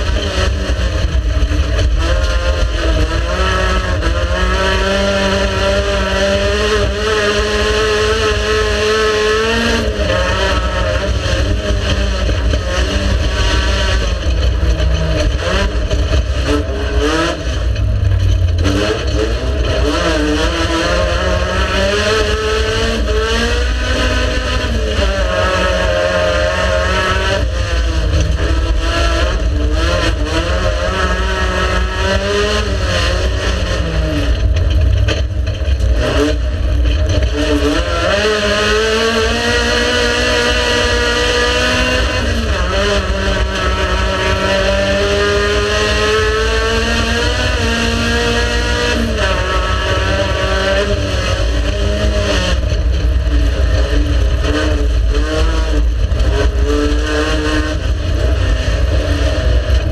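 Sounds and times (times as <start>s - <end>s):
race car engine shifting gears: 0.0s - 59.9s.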